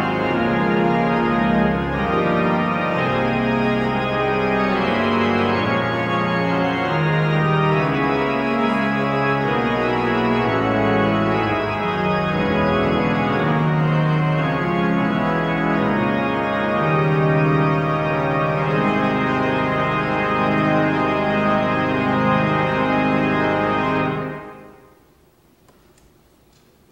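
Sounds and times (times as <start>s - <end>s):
pipe organ playing chords: 0.0s - 25.0s.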